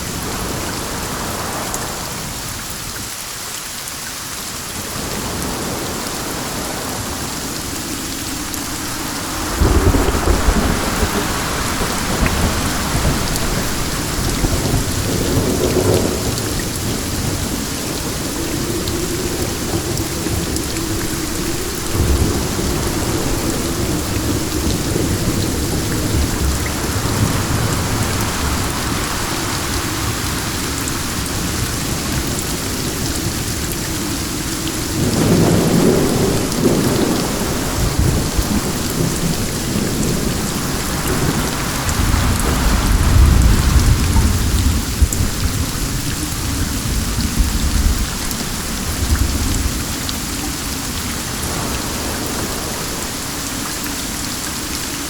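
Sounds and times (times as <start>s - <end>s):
steady rain: 0.0s - 55.0s
thunder rumbling: 4.8s - 54.9s.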